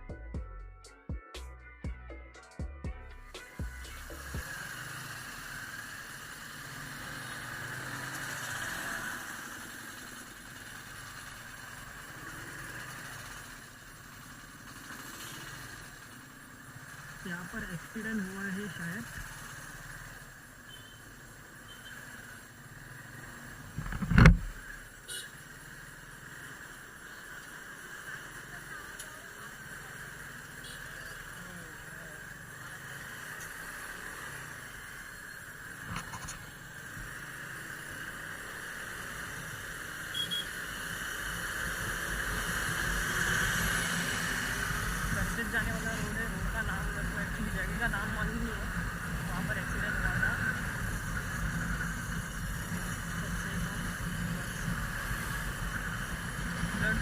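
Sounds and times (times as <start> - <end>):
motorcycle engine and road noise: 2.9 - 57.0.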